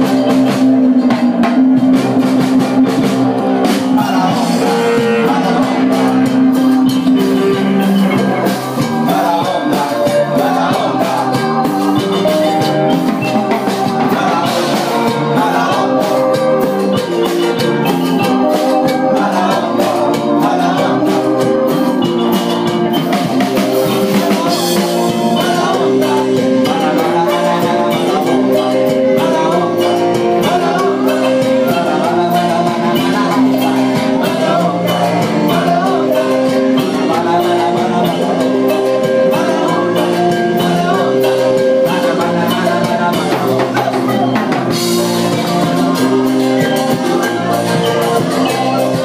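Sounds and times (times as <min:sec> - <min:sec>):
combo organ: 0:00.0 - 0:49.0
cumbia band playing: 0:00.0 - 0:49.0
drum kit: 0:00.0 - 0:49.0
electric guitar: 0:00.0 - 0:49.0.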